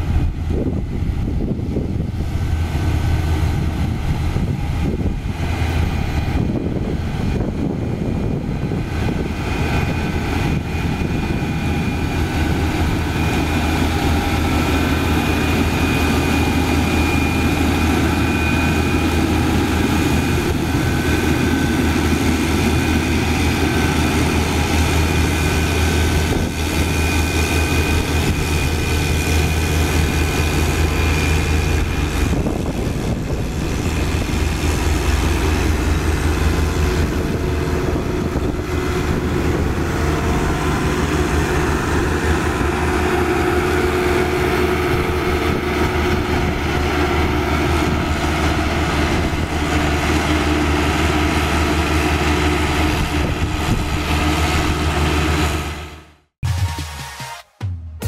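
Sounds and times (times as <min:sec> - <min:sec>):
soil compactor diesel engine: 0:00.0 - 0:56.2
diesel engine droning with whine: 0:00.0 - 0:56.3.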